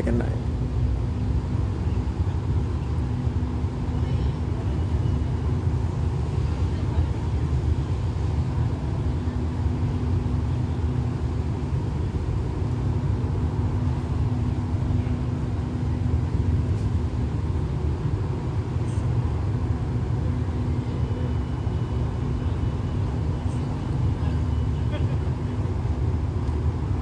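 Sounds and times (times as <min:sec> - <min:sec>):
diesel train idling: 0:00.0 - 0:27.0.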